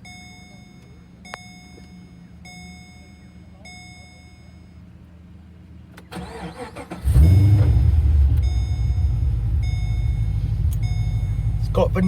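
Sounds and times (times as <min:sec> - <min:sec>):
faint warning chime: 0:00.0 - 0:05.5, 0:06.3 - 0:12.0
car engine starting and idling: 0:00.0 - 0:12.0.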